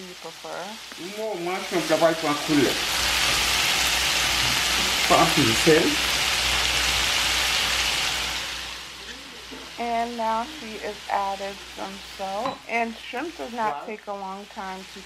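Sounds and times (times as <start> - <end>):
shrimp sizzling in hot oil: 0.0 - 15.0.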